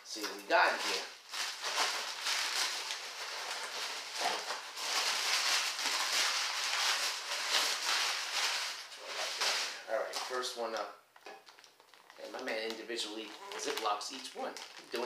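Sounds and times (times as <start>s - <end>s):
packing paper crinkling: 0.6s - 15.0s.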